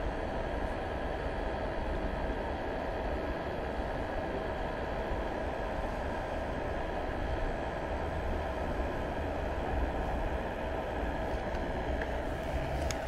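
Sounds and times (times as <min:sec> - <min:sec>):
mechanical hum with whine: 0:00.0 - 0:13.0.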